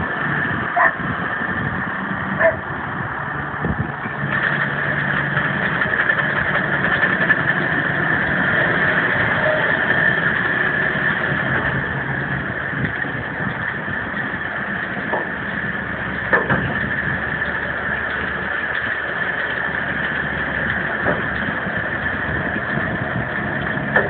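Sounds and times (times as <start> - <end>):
hay baler engine drone: 0.0 - 24.0
high whine: 0.0 - 24.0.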